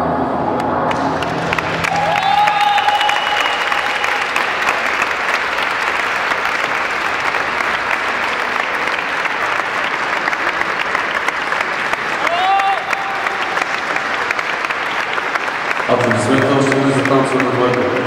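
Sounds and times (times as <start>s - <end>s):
audience applauding: 0.8s - 18.0s.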